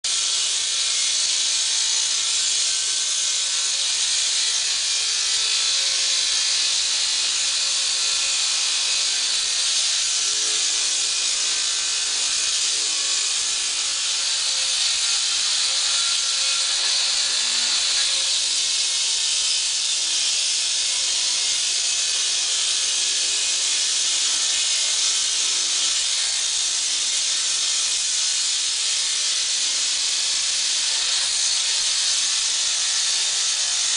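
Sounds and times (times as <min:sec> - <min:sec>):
concrete saw grinding: 0:00.0 - 0:33.9.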